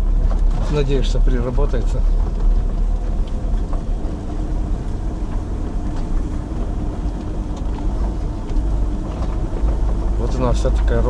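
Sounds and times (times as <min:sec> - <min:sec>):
car engine rumble from inside: 0:00.0 - 0:11.0.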